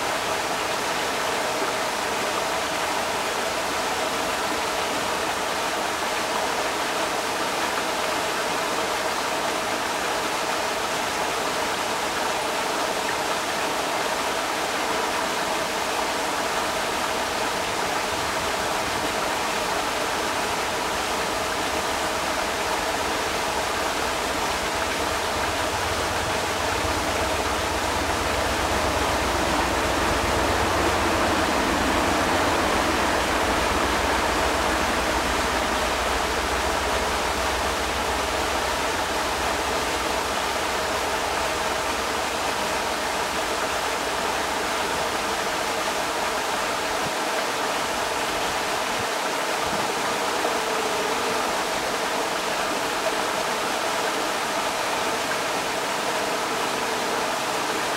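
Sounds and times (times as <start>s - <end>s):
creek rushing over rocks: 0.0s - 57.9s.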